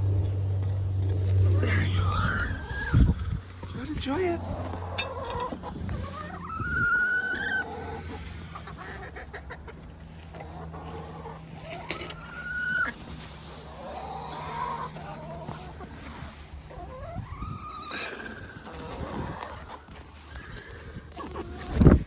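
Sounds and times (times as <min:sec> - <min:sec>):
hens clucking: 0:00.0 - 0:22.0
hen drawn-out calls: 0:01.5 - 0:21.7.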